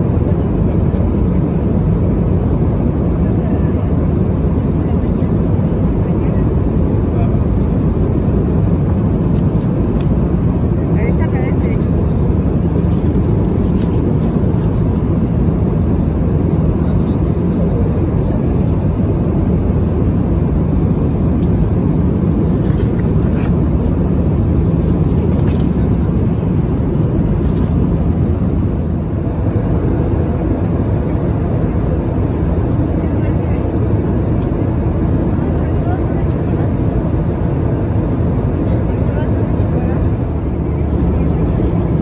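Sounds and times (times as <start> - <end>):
engine drone and rushing air: 0.0 - 42.0.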